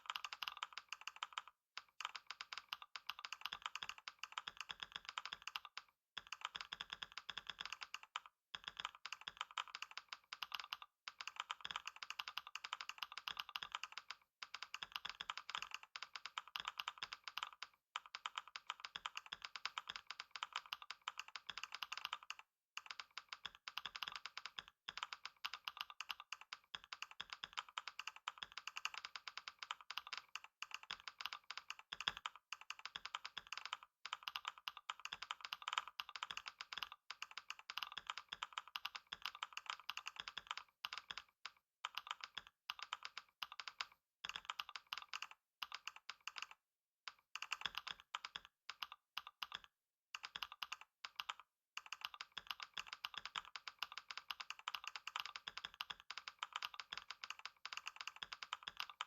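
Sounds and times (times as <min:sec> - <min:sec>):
fast typing on computer keyboard: 0:00.0 - 0:59.0.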